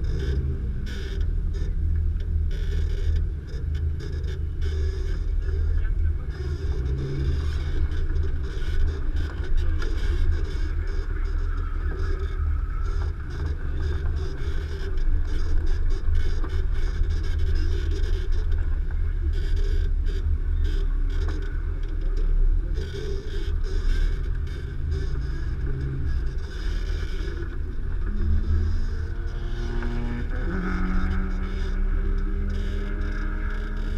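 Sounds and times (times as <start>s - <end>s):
vehicle engine rumble: 0.0s - 33.9s.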